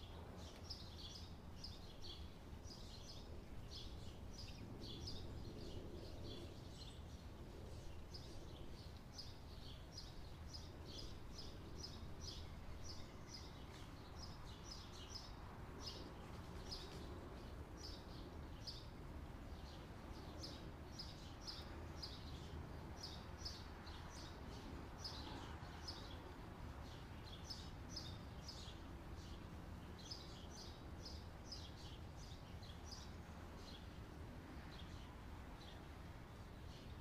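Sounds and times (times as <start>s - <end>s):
low steady background hum: 0.0s - 37.0s
small birds chirping: 0.0s - 37.0s.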